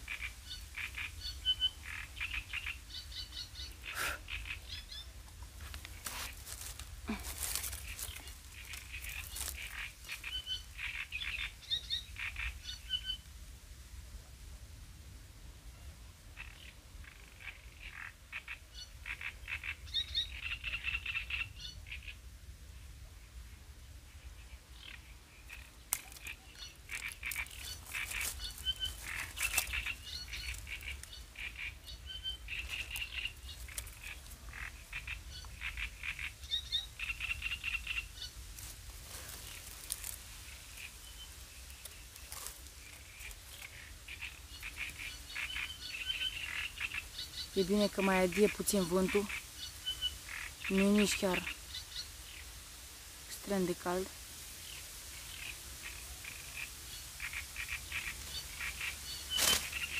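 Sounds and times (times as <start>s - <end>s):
frogs croaking: 0.0s - 13.2s, 16.4s - 22.3s, 24.2s - 59.9s.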